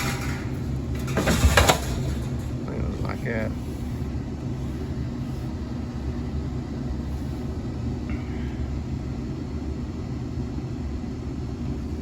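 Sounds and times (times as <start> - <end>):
gas furnace humming: 0.0 - 12.0.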